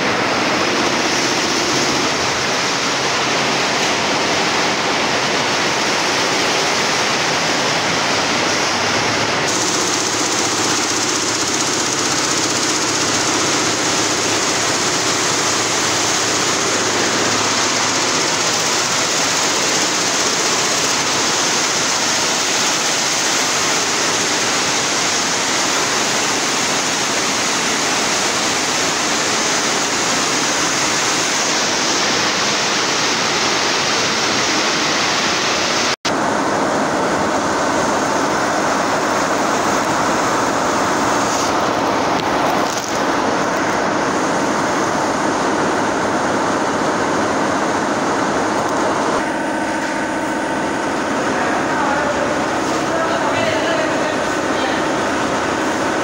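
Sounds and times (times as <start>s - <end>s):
embroidery machines running: 0.0s - 56.0s.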